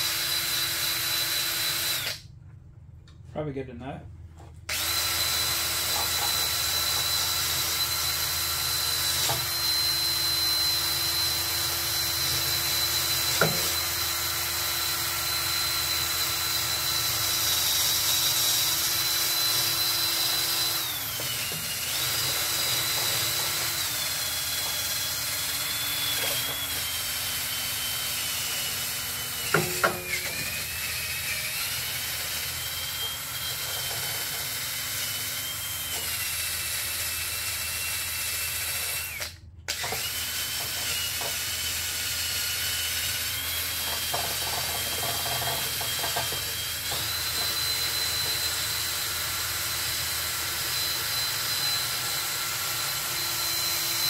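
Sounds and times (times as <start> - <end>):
drill wire brush whining on metal: 0.0 - 2.3, 4.7 - 54.0.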